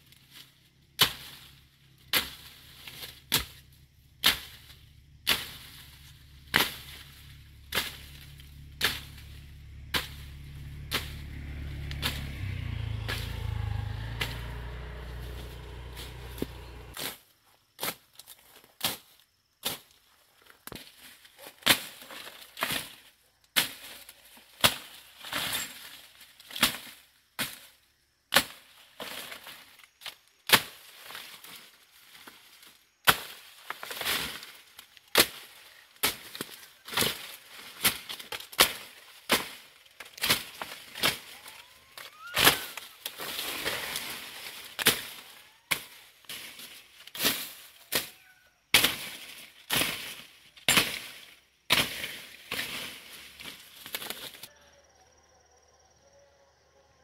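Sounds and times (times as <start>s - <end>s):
leaves and brush rustling: 0.0s - 54.6s
machete chopping undergrowth: 0.2s - 20.0s, 20.7s - 32.4s, 33.0s - 54.5s.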